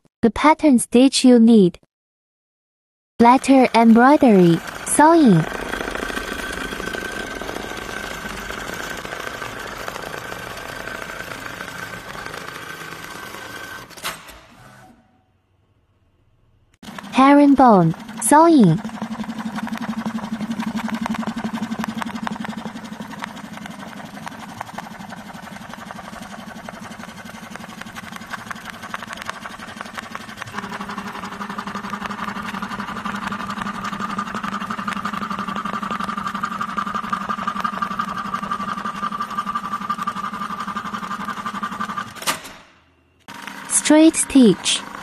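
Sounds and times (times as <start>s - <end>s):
sewing machine needle strokes: 3.2s - 14.0s, 16.8s - 42.2s, 43.2s - 45.0s
sewing machine motor hum: 3.2s - 15.2s, 16.8s - 42.6s, 43.2s - 45.0s.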